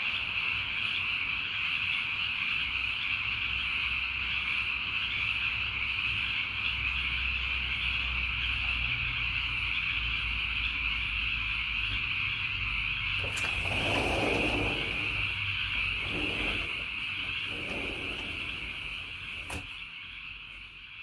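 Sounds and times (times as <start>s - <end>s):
faint low hum: 0.0s - 21.0s
tree frogs calling: 0.0s - 21.0s.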